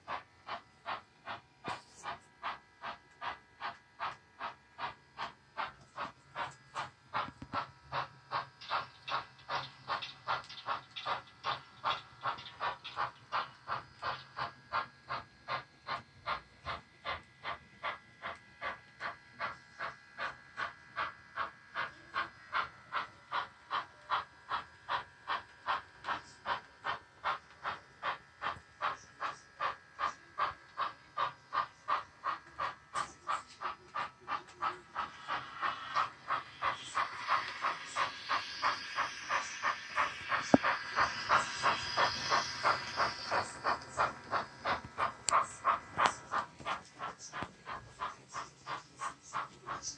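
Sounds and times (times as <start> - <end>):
model steam locomotive chuffing: 0.0 - 49.9
steam hiss: 0.0 - 49.9.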